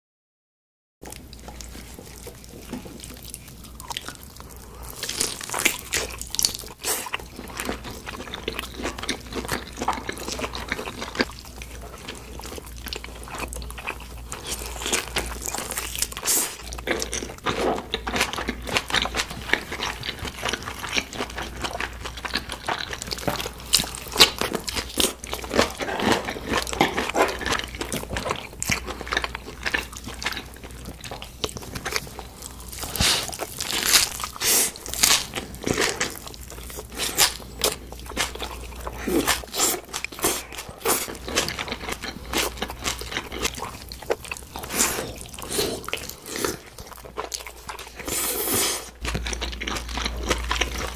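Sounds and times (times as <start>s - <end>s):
crunching and chewing crispy meat: 1.0s - 50.9s.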